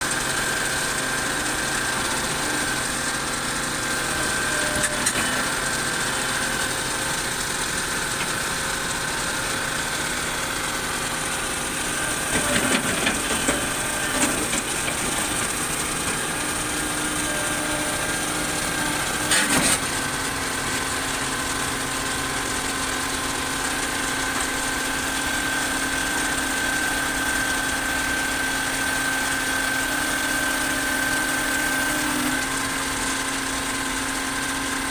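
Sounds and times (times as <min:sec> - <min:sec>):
excavator engine running: 0:00.0 - 0:34.9.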